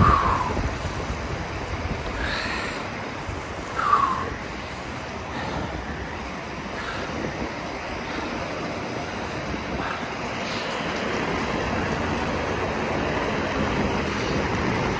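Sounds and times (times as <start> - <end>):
inline skates rolling on wet asphalt: 0.0 - 14.9
wind on microphone: 0.0 - 14.9.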